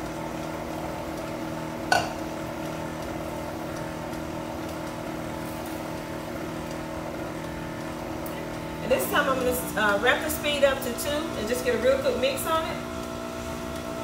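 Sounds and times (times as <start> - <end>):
stand mixer running: 0.0 - 14.0.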